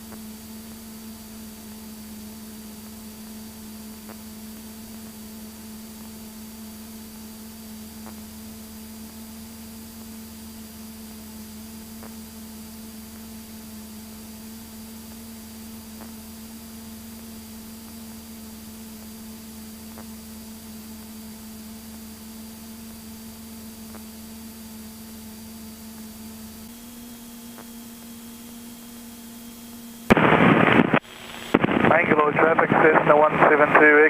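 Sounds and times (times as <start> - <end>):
cockpit hum with hiss: 0.0 - 34.0.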